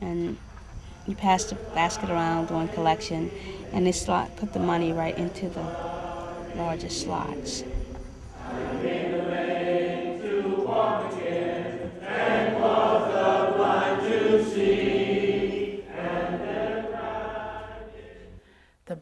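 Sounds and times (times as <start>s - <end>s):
choir singing: 0.0s - 18.5s.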